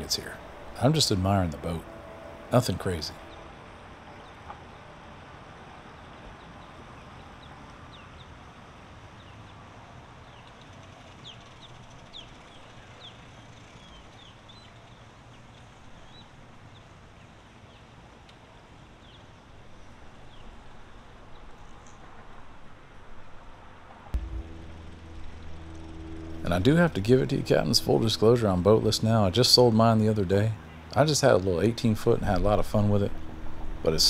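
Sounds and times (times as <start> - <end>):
low hum: 0.0 - 14.9, 19.8 - 34.0.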